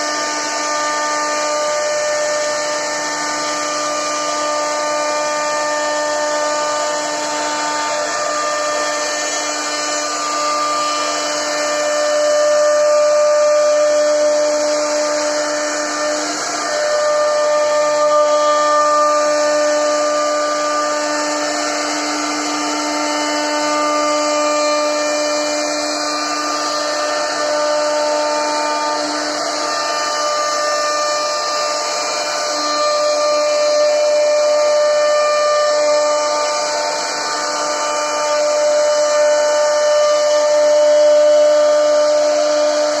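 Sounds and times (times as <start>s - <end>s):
bit cutting wood: 0.0s - 43.0s
router spindle whine: 0.0s - 43.0s.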